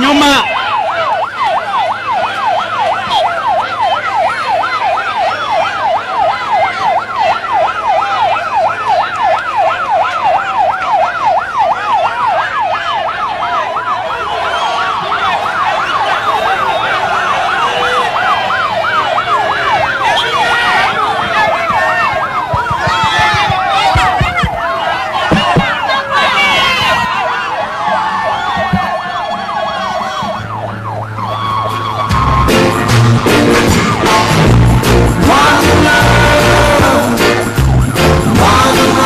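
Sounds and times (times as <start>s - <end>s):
large crowd noise: 0.0s - 39.0s
siren wailing: 0.0s - 39.0s
siren yelping: 0.0s - 39.0s.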